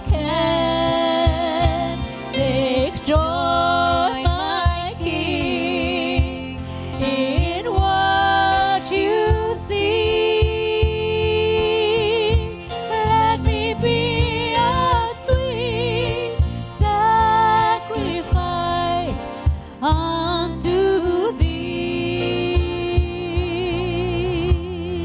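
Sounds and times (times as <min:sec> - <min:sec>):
band with low beat: 0:00.0 - 0:25.0
person singing with vibrato: 0:00.0 - 0:25.0.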